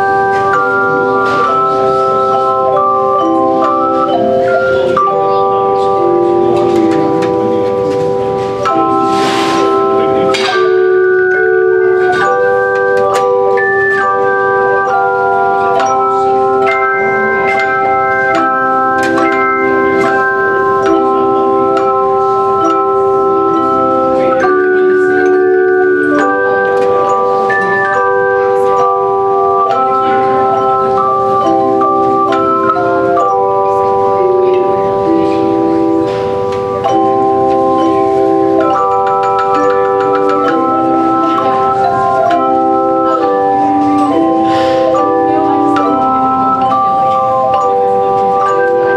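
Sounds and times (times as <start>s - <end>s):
handchimes ringing chords: 0.0s - 48.9s.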